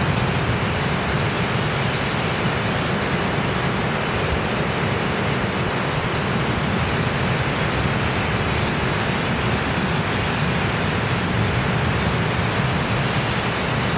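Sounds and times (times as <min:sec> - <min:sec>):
sea waves breaking on rocks: 0:00.0 - 0:13.9.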